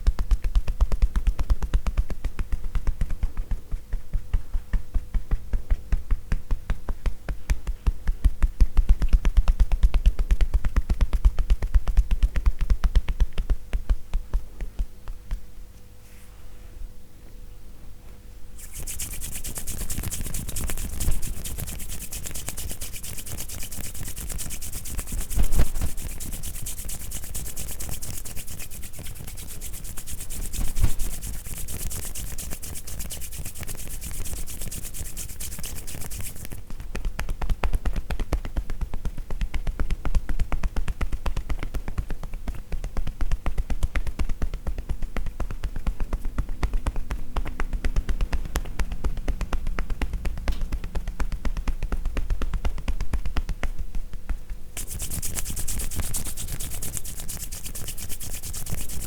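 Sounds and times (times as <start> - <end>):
hands tapping on body: 0.0 - 15.6, 18.6 - 59.0
heavier pats: 0.0 - 15.6, 18.6 - 59.0.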